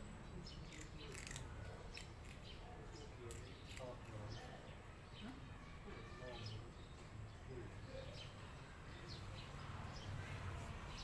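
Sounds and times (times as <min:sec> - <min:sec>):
faint distant voices: 0:00.0 - 0:11.0.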